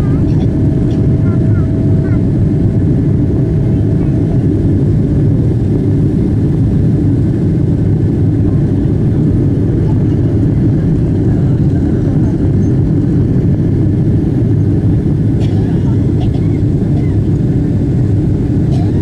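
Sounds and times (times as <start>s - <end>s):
jet engine rumble in cabin: 0.0s - 19.0s.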